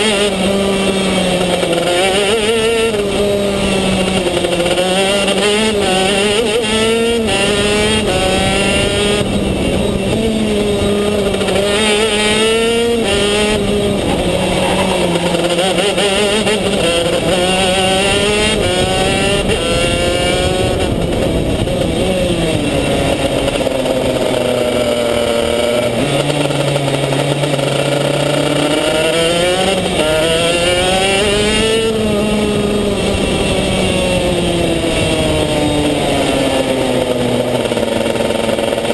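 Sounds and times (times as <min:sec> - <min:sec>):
kart engine at speed: 0:00.0 - 0:38.9.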